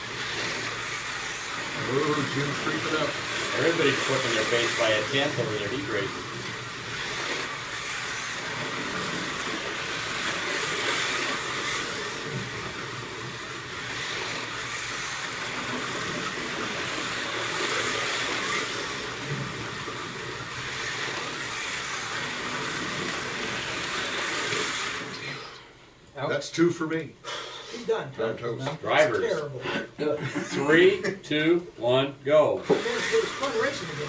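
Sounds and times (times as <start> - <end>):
slot car motors whining: 0.0 - 26.2, 32.6 - 34.0.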